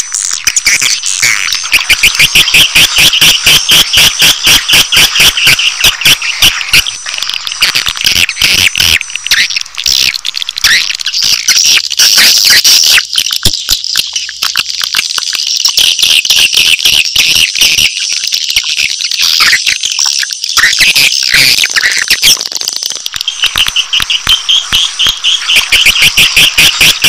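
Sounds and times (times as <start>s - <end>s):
high-pitched bird chick chirping: 0.0s - 27.0s.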